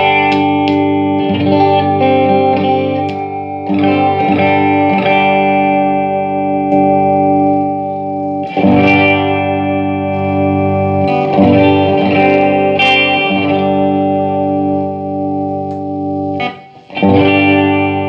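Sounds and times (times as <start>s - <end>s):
electric guitar chords strummed: 0.0s - 18.0s.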